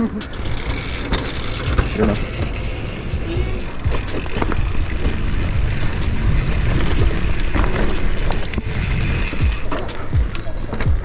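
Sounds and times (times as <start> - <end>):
bike clattering: 0.0 - 11.0
bike tyres rumbling: 0.0 - 11.0.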